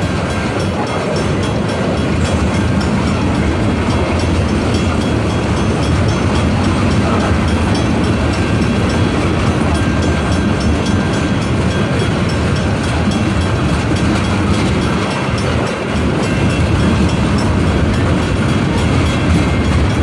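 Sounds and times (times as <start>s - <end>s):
freight train wheels rumbling: 0.0s - 20.0s
wheels clicking over rail joints: 0.0s - 20.0s.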